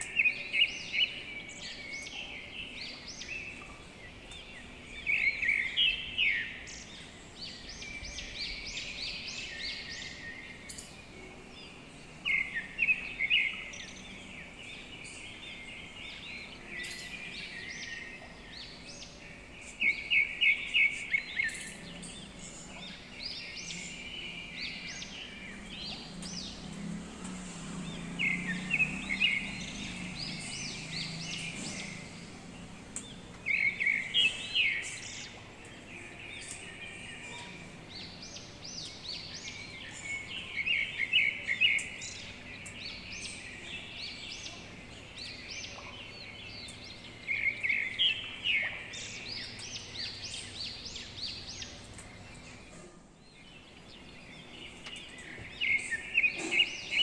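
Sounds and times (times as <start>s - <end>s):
bird chirping: 0.0s - 57.0s
outdoor background noise: 0.0s - 57.0s.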